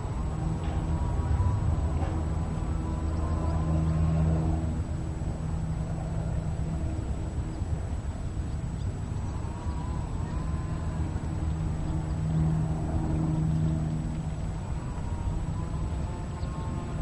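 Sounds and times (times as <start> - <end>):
engine running: 0.0 - 17.0
faint wavering whine: 0.0 - 17.0.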